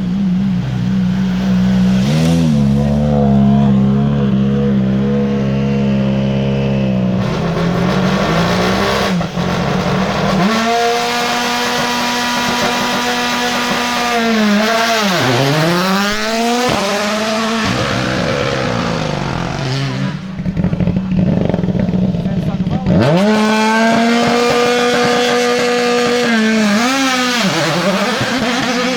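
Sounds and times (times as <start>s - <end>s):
rally car engine passing: 0.0s - 28.9s.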